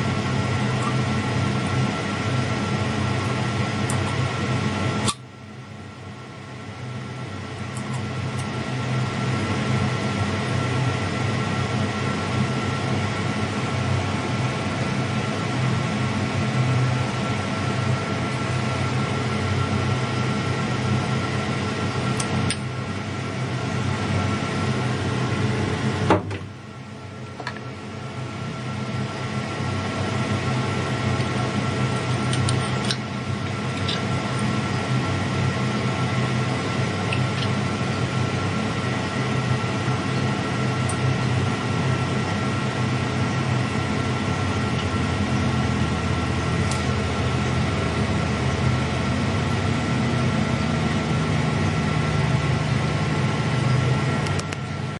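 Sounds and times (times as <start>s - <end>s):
lathe hum and whine: 0.0s - 54.9s.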